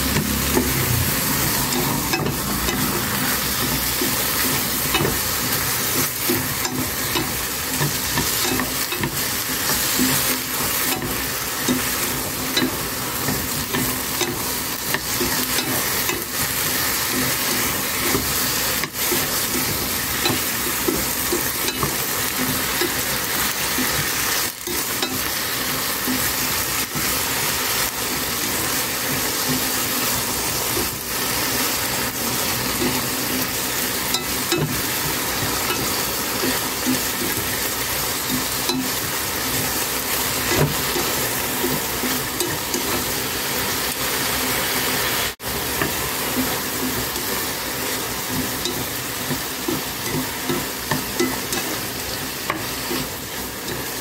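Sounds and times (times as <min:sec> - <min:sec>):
chopsticks stirring in a pot: 0:00.0 - 0:54.0
eggplant sizzling in hot oil: 0:00.0 - 0:54.0.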